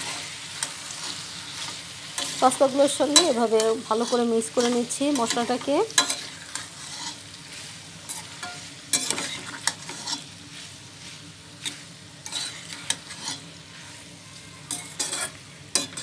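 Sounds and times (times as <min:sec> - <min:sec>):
spatula scraping a metal pot: 0:00.0 - 0:07.2, 0:08.1 - 0:10.3, 0:11.6 - 0:16.0
frying sizzle: 0:00.0 - 0:16.0.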